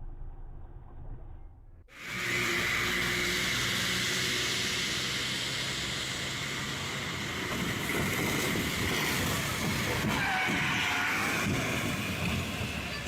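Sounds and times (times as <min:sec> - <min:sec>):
road and wind noise: 0:02.0 - 0:13.0.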